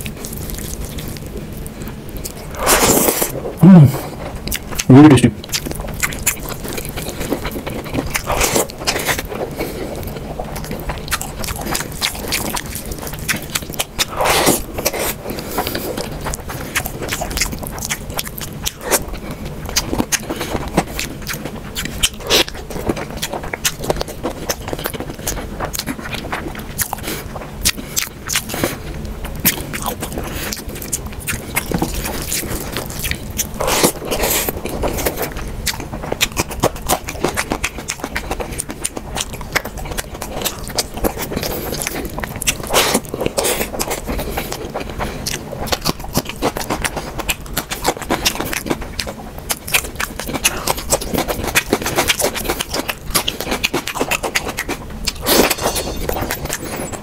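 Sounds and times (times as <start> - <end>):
open-mouth chewing: 0.0 - 57.0.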